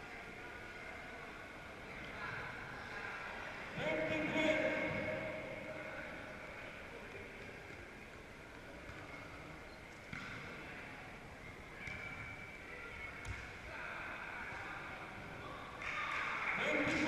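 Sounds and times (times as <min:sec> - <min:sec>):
crowd murmur in hall: 0:00.0 - 0:17.0.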